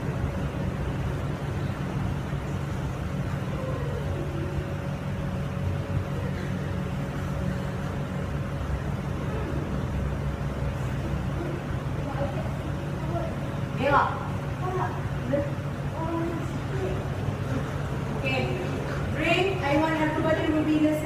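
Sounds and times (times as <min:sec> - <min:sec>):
faint constant hum: 0:00.0 - 0:21.0
low room noise rumble: 0:00.0 - 0:21.0.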